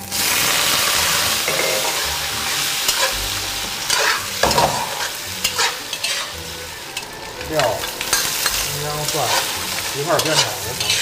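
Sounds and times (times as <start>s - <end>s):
meat sizzling in a wok: 0.0s - 11.0s
spatula scraping a pan: 1.0s - 11.0s.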